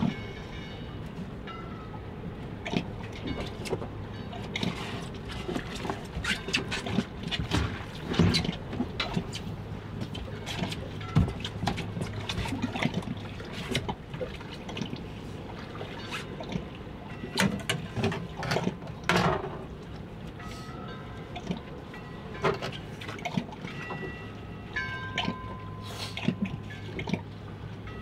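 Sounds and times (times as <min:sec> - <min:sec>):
water lapping against boat hull: 0:02.4 - 0:28.0.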